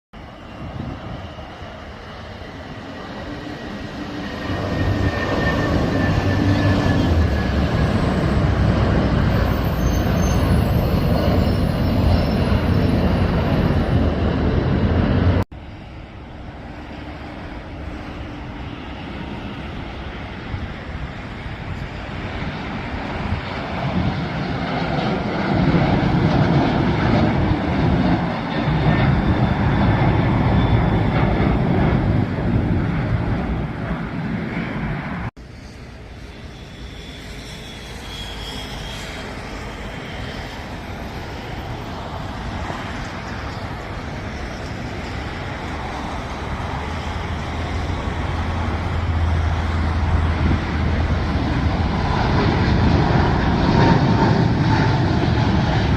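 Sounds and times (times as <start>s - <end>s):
jet airliner engines: 0.2s - 55.9s.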